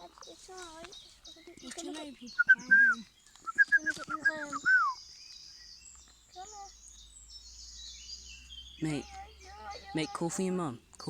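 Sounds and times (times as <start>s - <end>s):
high outdoor hiss: 0.0s - 11.0s.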